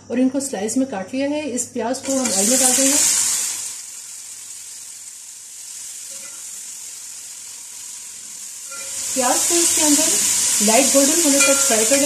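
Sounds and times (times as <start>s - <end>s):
onions sizzling in hot oil: 2.0s - 12.0s.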